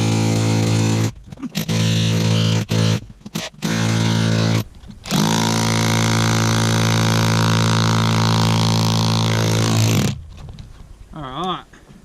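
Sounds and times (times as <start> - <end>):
jackhammer chiselling into rock: 0.0 - 10.2.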